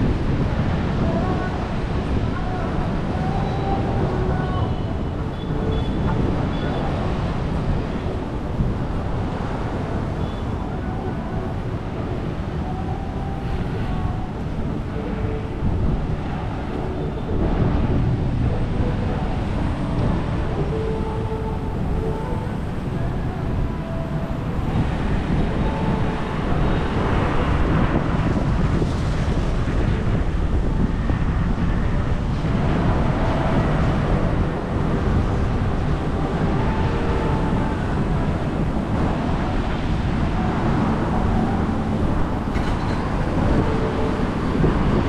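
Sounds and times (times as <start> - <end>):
steady outdoor roar: 0.0 - 45.0
wind buffeting microphone: 0.0 - 45.0.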